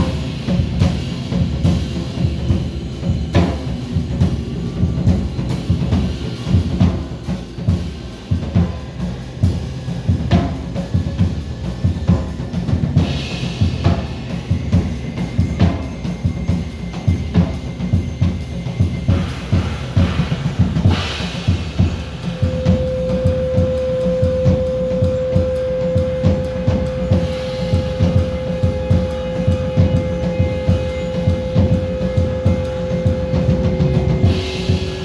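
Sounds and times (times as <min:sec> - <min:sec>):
music with driving drum beat: 0:00.0 - 0:35.0.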